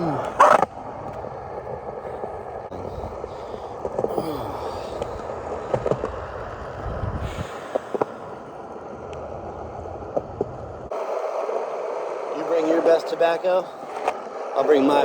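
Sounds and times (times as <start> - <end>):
skateboard clicks: 0.0 - 15.0
skateboard wheels rolling on concrete: 0.0 - 15.0.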